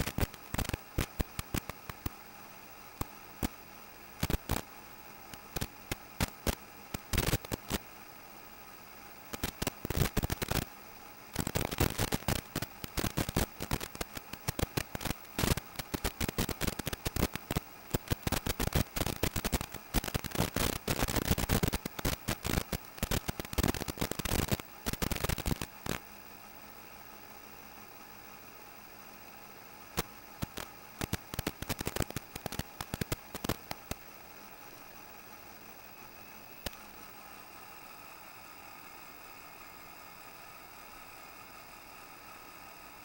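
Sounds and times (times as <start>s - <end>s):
crackling radio static: 0.0s - 8.2s, 9.1s - 26.3s, 29.2s - 43.0s
steady hiss and hum: 0.0s - 43.0s.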